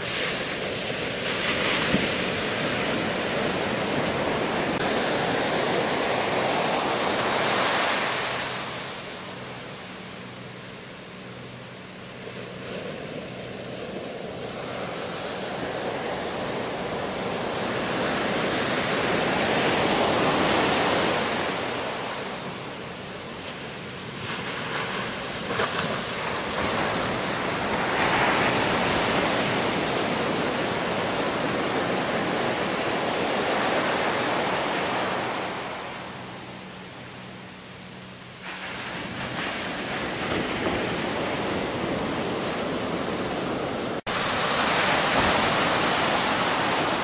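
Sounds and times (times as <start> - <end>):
waves breaking on sand: 0.0 - 47.0.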